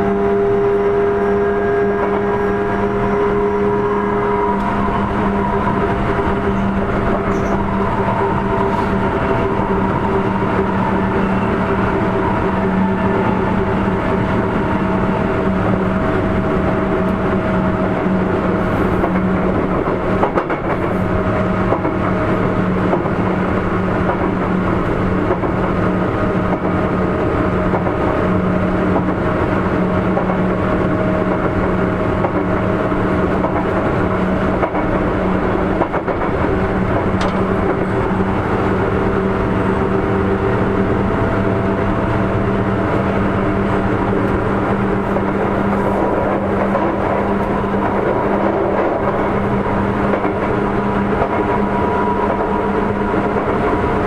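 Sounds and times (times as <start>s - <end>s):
train hum: 0.0s - 54.0s
train wheels on rails: 0.0s - 54.0s.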